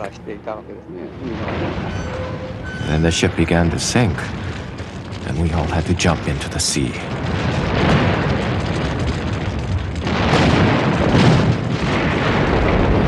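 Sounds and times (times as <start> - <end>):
rumbling explosion booms: 1.1 - 13.0.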